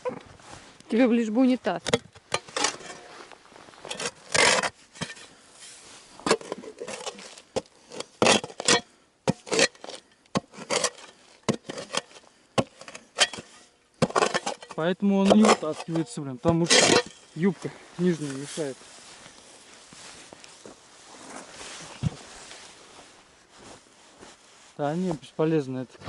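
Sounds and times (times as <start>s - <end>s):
tool scraping and digging earth: 0.0s - 25.3s.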